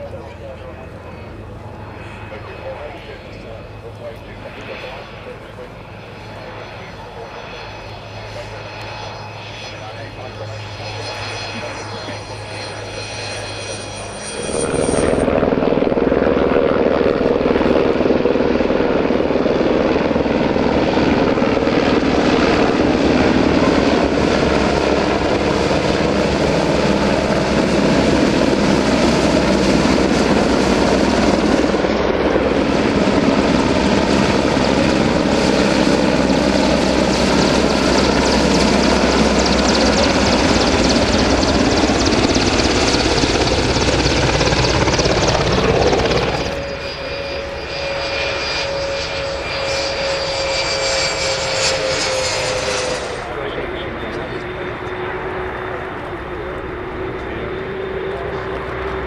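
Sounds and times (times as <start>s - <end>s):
helicopter rotor and turbine noise: 0.0s - 59.0s
turboprop plane engine whine: 0.0s - 59.0s.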